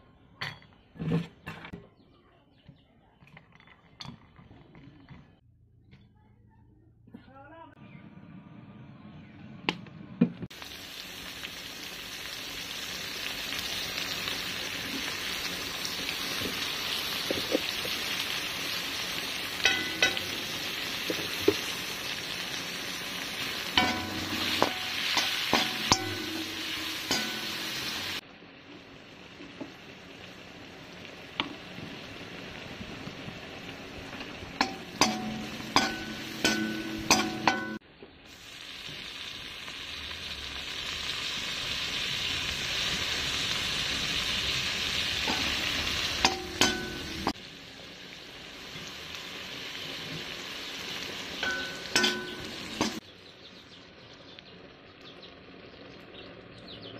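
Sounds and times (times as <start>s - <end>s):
vegetables sizzling in oil: 10.5s - 56.6s.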